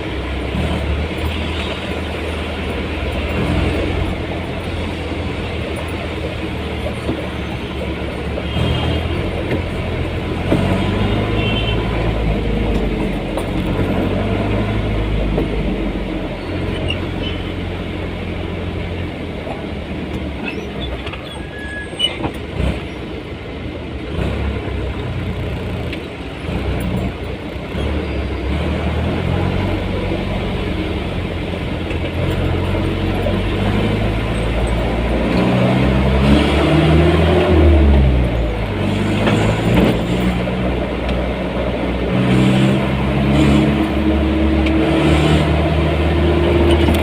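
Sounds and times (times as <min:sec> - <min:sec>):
vehicle engine hum and road noise: 0:00.0 - 0:47.0.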